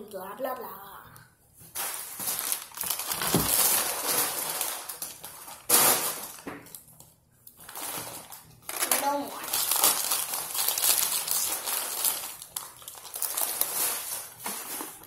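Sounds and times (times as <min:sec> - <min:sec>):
plastic bag crinkling: 0:01.7 - 0:06.8, 0:07.6 - 0:15.0.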